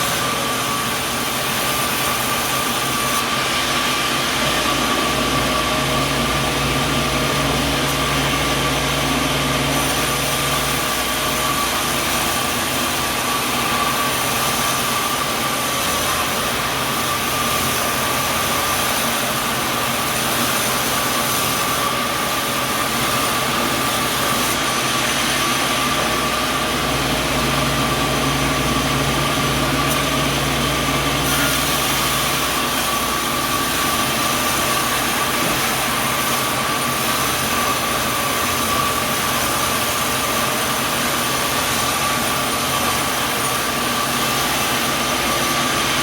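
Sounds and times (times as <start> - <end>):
sawmill machinery drone: 0.0 - 46.0.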